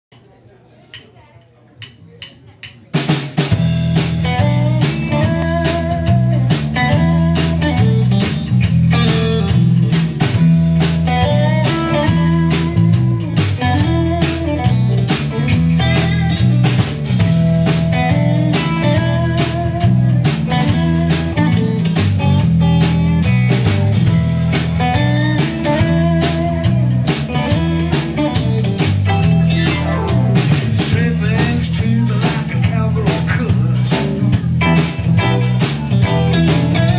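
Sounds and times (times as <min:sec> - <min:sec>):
drum kit: 0:01.8 - 0:36.9
electric bass: 0:03.4 - 0:36.9
electric guitars: 0:03.4 - 0:36.9.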